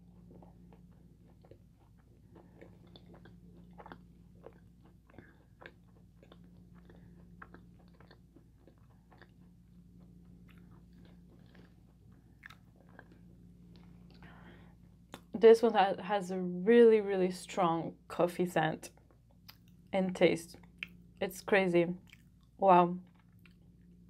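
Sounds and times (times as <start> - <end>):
faint chewing with crackles: 0.0 - 15.4, 18.8 - 24.0.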